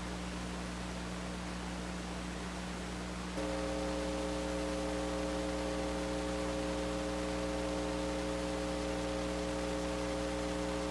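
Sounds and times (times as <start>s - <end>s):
constant hiss: 0.0s - 10.9s
electrical hum: 0.0s - 10.9s.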